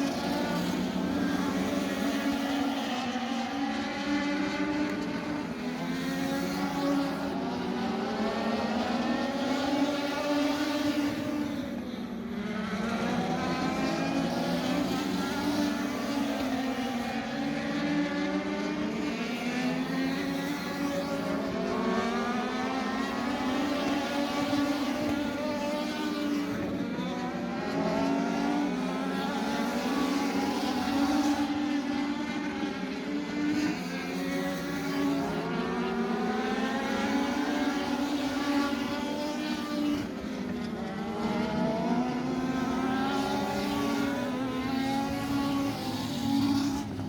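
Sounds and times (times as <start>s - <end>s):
race car engine accelerating: 0.1s - 47.0s.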